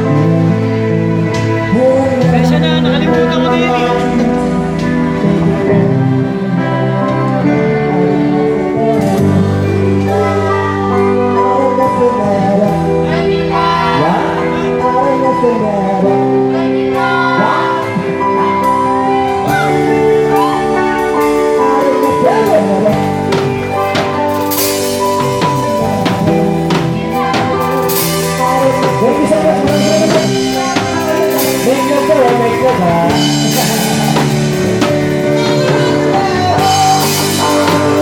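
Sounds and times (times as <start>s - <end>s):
band playing a slow ballad: 0.0s - 38.0s
person singing: 0.0s - 38.0s.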